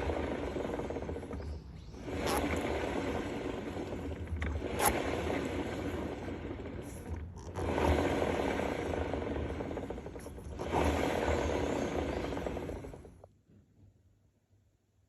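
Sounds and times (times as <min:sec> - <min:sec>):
wheel scraping noise: 0:00.0 - 0:13.3.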